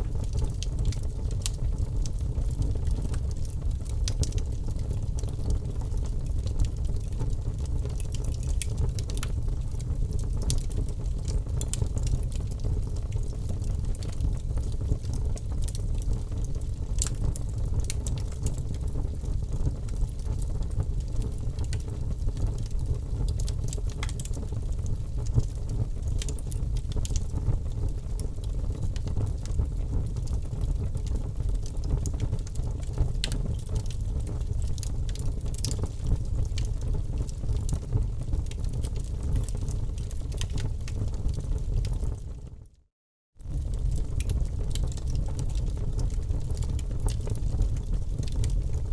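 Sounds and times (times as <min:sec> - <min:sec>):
fire crackling and popping: 0:00.0 - 0:42.4, 0:43.4 - 0:48.9
fire flames rumbling: 0:00.0 - 0:42.4, 0:43.4 - 0:48.9.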